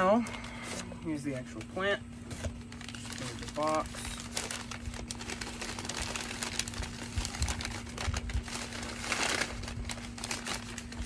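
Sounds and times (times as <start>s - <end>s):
paper crinkling: 0.3s - 11.0s
cardboard rustling: 0.4s - 11.0s.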